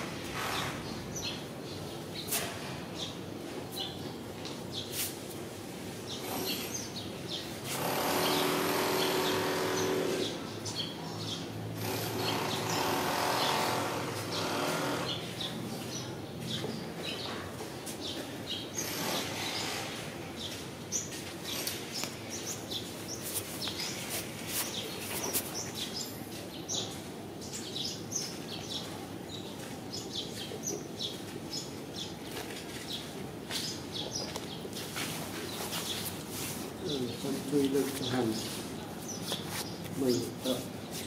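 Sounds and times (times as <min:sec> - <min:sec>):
low background noise: 0:00.0 - 0:41.0
small birds chirping: 0:00.0 - 0:41.0.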